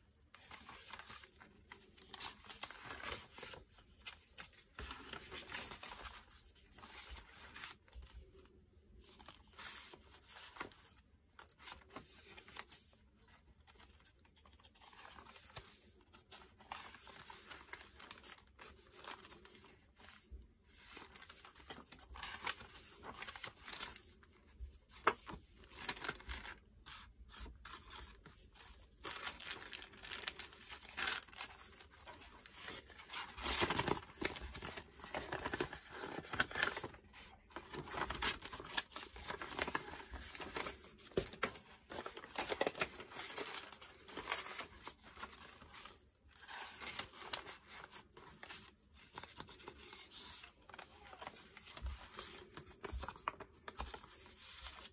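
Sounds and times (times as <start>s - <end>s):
paper pages rustling: 0.2s - 54.9s.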